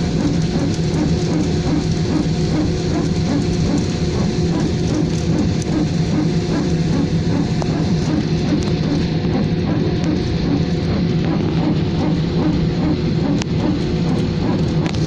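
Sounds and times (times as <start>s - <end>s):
jet engines rumbling: 0.0s - 15.0s
low cabin hum: 0.0s - 15.0s.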